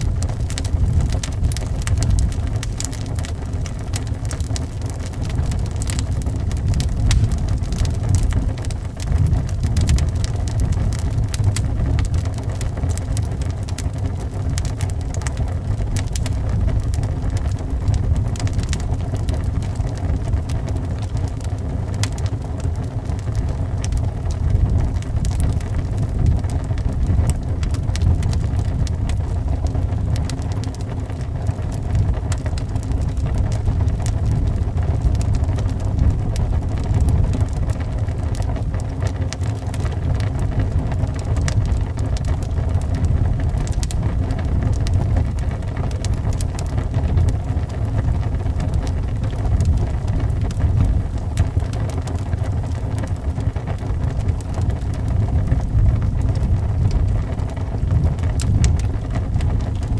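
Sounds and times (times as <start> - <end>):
low rumble of wind: 0.0 - 59.9
wood fire crackling: 0.0 - 59.9.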